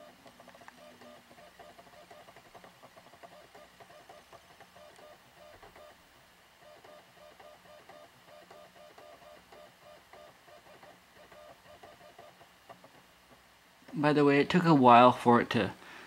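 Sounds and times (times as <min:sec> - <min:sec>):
optical drive chattering: 0:00.0 - 0:06.0, 0:06.6 - 0:14.0.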